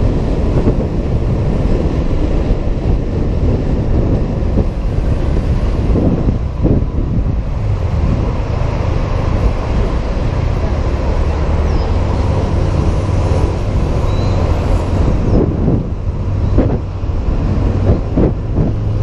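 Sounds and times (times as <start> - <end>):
road traffic: 0.0 - 19.0
wind buffeting microphone: 0.0 - 19.0.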